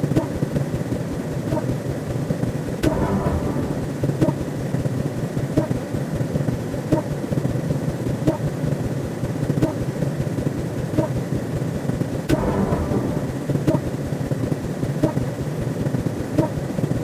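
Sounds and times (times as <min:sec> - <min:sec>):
continuous low rumble: 0:00.0 - 0:17.0.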